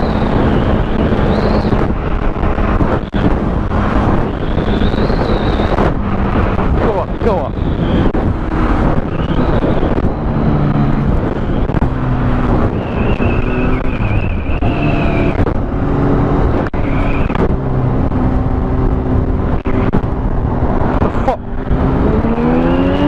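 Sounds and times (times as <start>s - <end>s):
road and wind rush: 0.0s - 23.0s.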